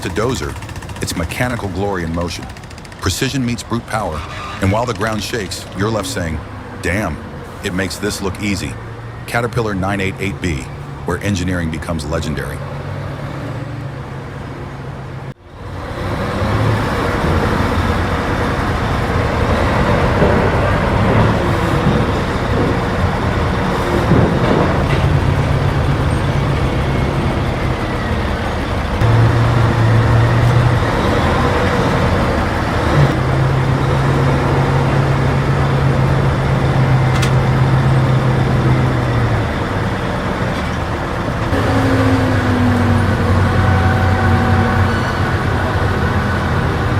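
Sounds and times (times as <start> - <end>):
heavy diesel machine engine: 0.0 - 46.9.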